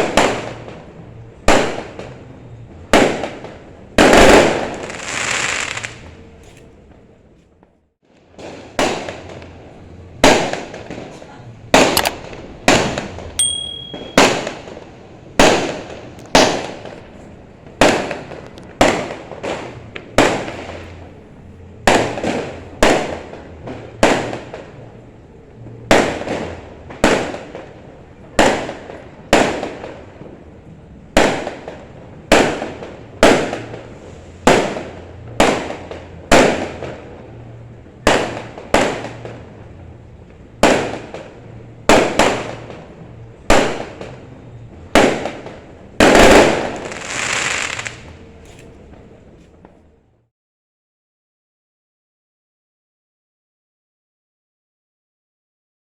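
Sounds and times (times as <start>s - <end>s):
fireworks bangs with echo: 0.0s - 6.3s, 8.1s - 49.8s.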